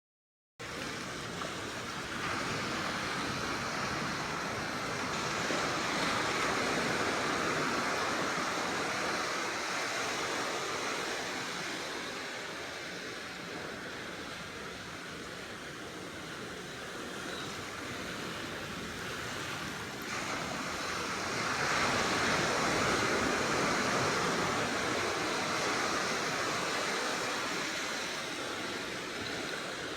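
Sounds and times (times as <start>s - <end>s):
sea waves washing in: 0.6s - 29.9s.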